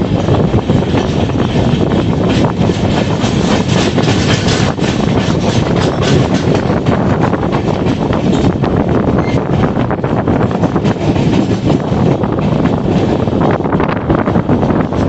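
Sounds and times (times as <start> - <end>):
train wheels rumbling on track: 0.0 - 15.0
wind buffeting microphone: 0.0 - 15.0.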